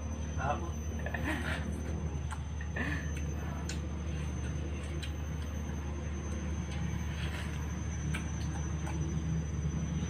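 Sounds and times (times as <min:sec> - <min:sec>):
steady low hum: 0:00.0 - 0:10.0
thin high whine: 0:00.0 - 0:10.0
people eating watermelon: 0:00.9 - 0:10.0.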